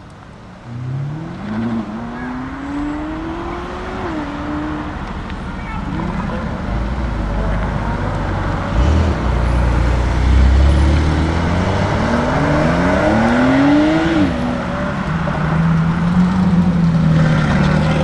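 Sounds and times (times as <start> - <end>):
car engine revving: 0.5 - 18.0.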